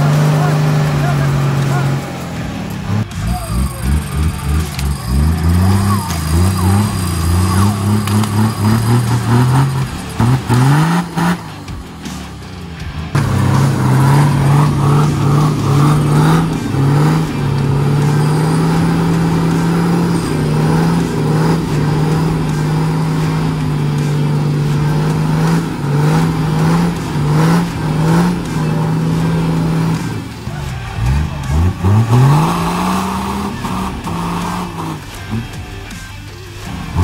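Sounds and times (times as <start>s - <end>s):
engine revving hard: 0.0s - 37.0s.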